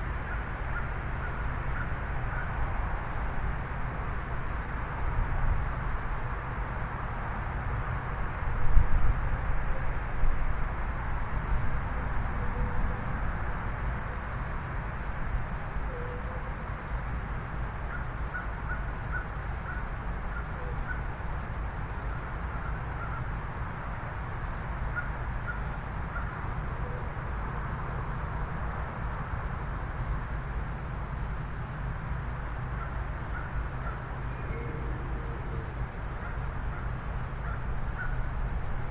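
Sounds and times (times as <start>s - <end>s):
wind: 0.0s - 38.9s.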